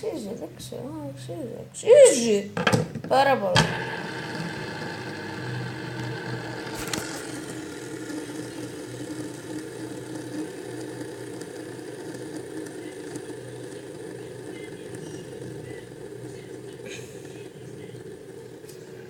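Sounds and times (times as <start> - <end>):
fidget spinner whirring: 3.3 - 19.0.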